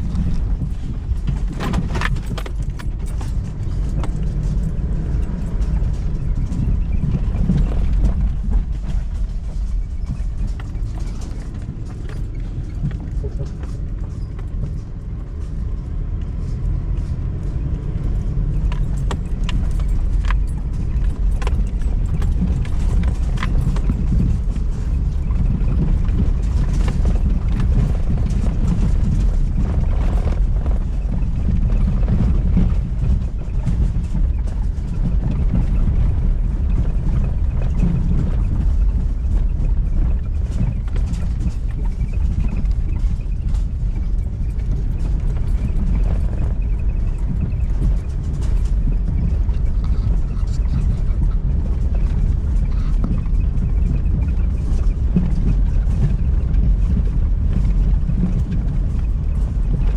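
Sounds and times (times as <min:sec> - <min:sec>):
engine and road rumble: 0:00.0 - 0:59.9
knocks and rattles: 0:00.0 - 0:59.9.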